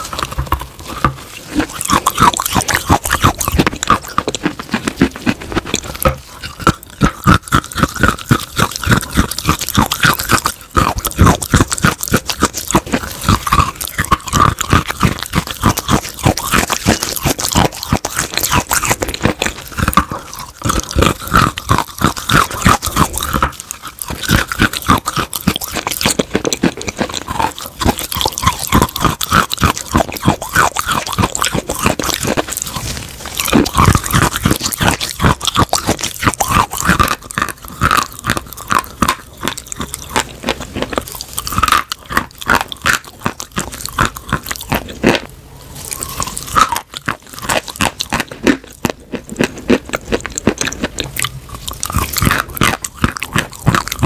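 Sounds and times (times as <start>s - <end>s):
chalk crunching between teeth: 0.0s - 54.0s.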